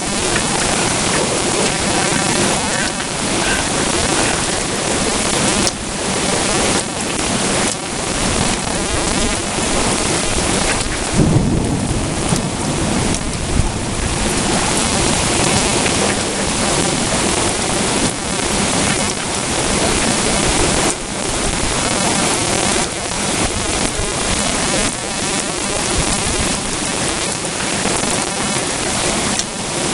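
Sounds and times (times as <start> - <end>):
low thunder rumble: 0.0 - 29.2
heavy rain falling: 0.0 - 29.9.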